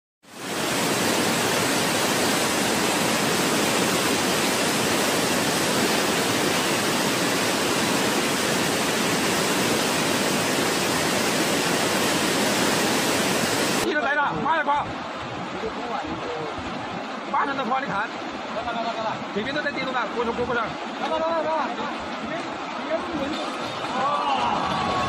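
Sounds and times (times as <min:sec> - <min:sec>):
floodwater rushing: 0:00.2 - 0:25.0.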